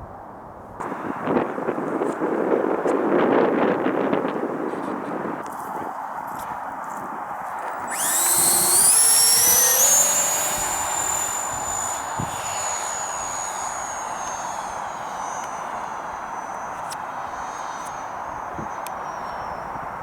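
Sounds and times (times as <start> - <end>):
electric ducted fan whine: 0.0 - 20.0.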